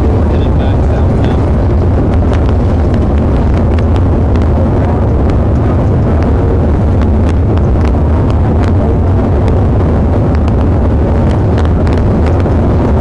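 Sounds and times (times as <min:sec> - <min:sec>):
car driving at speed: 0:00.0 - 0:13.0.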